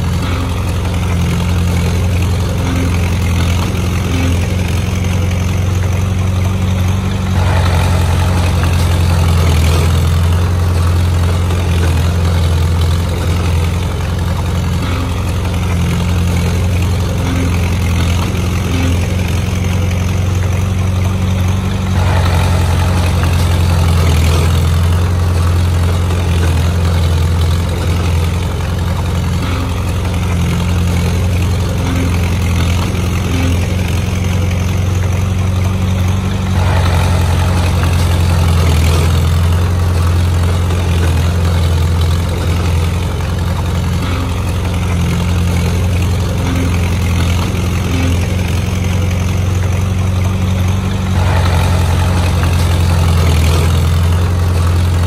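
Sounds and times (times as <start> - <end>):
heavy machine engine humming: 0.0 - 55.0.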